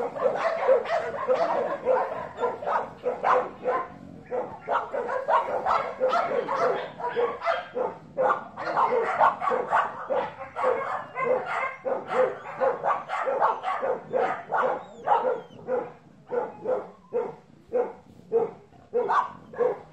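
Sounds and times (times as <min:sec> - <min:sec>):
dog barking: 0:00.0 - 0:19.9.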